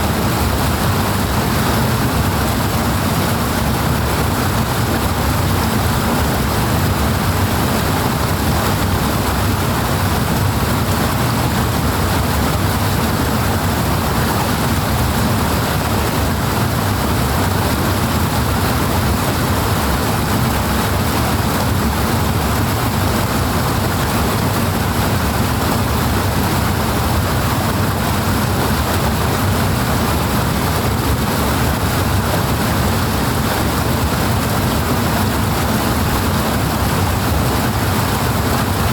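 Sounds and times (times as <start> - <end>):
powerful rushing water: 0.0 - 38.9.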